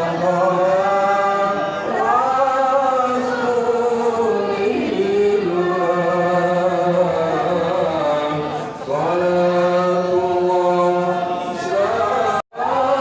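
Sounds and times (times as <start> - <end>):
voices chanting long held notes: 0.0 - 13.0.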